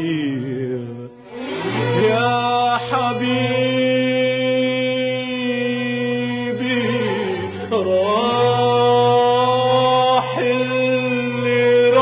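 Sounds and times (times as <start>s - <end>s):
person singing long held note: 1.8s - 12.0s.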